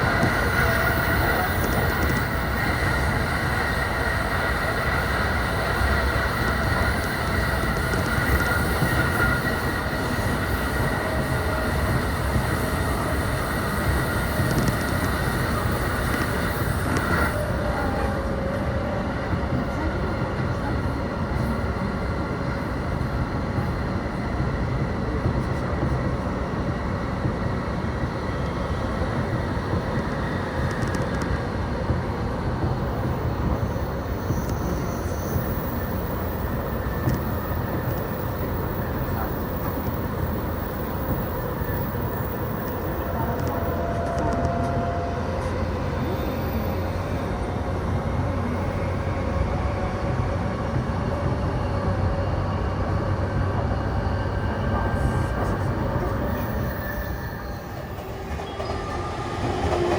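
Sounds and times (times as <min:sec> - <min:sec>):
electric train rumbling: 0:00.0 - 0:59.9.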